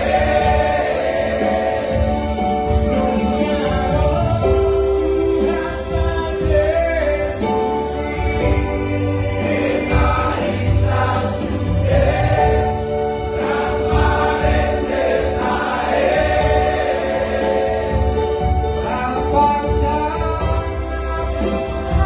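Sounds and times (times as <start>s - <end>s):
choir singing a hymn: 0.0s - 22.0s
instrumental accompaniment: 0.0s - 22.0s.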